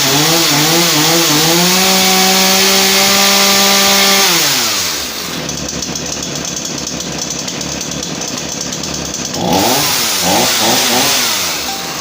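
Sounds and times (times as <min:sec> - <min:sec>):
chainsaw idling and revving: 0:00.0 - 0:12.0.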